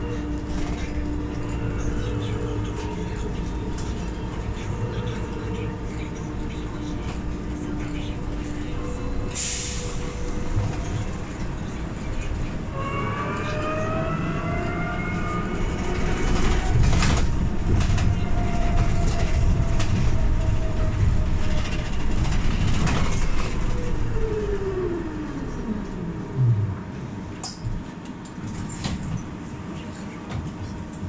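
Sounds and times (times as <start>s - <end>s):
low road rumble: 0.0s - 31.0s.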